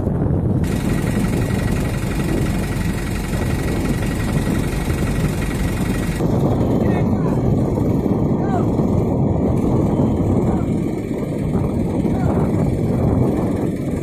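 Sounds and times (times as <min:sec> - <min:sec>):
truck engine idling: 0:00.2 - 0:14.0.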